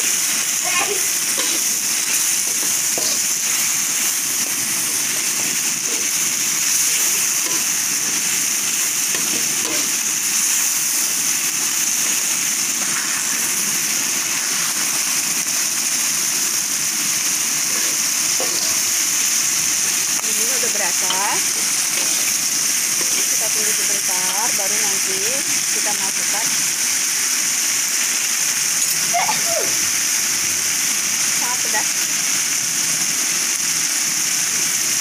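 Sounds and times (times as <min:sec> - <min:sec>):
metal spatula stir-frying in wok: 0:00.0 - 0:29.0
spice paste sizzling in hot oil: 0:00.0 - 0:35.0.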